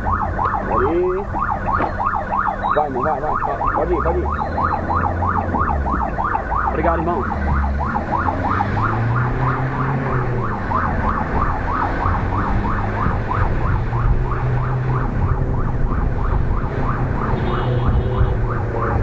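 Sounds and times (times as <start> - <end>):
ambulance siren yelping: 0.0 - 19.0
engine drone: 0.0 - 19.0.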